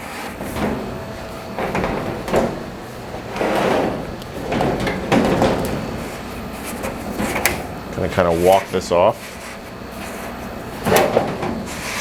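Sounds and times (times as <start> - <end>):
sheet metal scraping and bumping: 0.0 - 12.0.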